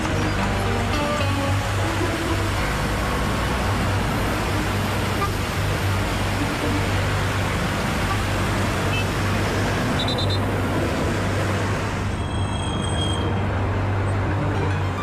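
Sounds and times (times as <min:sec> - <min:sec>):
city traffic noise: 0:00.0 - 0:15.0.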